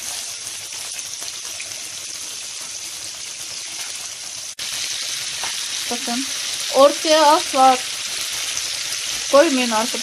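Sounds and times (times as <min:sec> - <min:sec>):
meat patties sizzling in a frying pan: 0:00.0 - 0:10.0.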